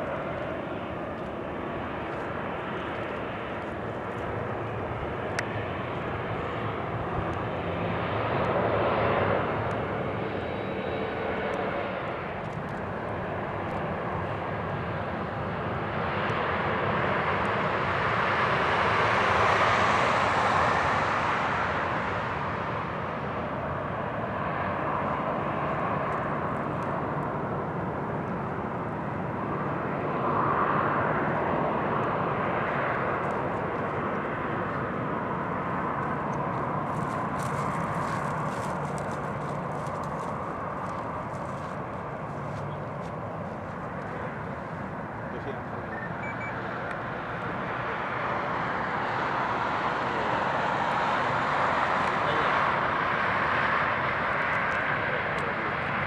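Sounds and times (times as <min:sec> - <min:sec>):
jet airliner engines taxiing: 0:00.0 - 0:56.0.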